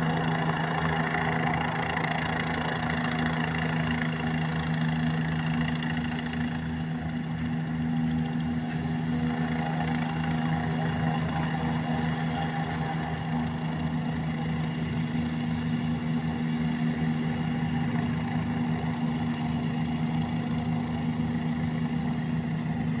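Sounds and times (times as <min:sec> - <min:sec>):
helicopter hovering: 0:00.0 - 0:23.0.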